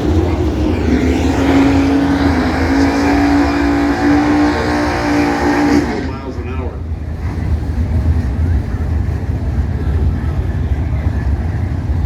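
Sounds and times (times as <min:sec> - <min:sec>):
steady low rumble: 0:00.0 - 0:04.0, 0:06.0 - 0:12.0
drag racing engines at full throttle: 0:00.0 - 0:12.0.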